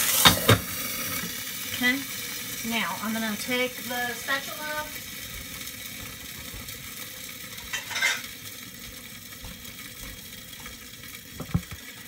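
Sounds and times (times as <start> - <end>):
eggs sizzling in a skillet: 0.0 - 12.0.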